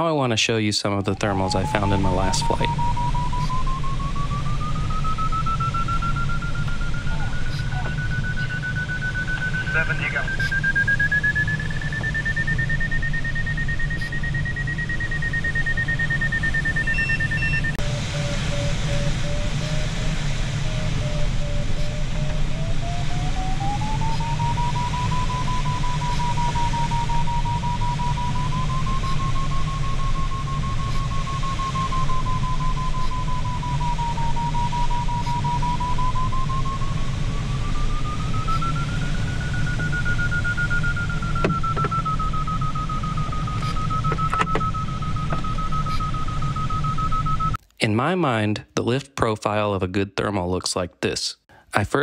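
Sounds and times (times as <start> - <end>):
variometer tone rising in pitch: 0.6 - 47.6.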